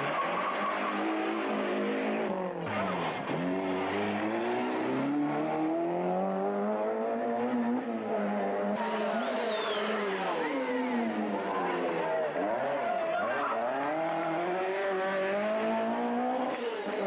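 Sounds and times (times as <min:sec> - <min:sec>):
rally car engines revving: 0:00.0 - 0:17.0.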